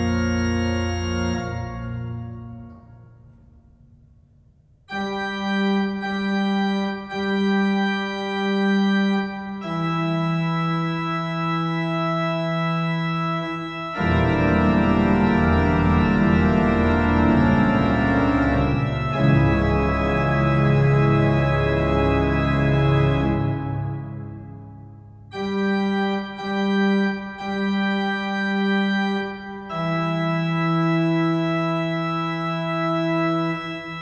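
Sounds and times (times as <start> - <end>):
pipe organ: 0.0 - 34.0.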